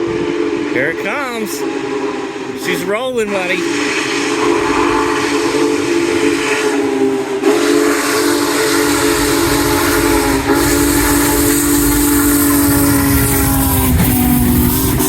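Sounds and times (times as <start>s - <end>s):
low rumble of train: 0.0s - 15.0s
steam locomotive whistle: 0.0s - 15.0s.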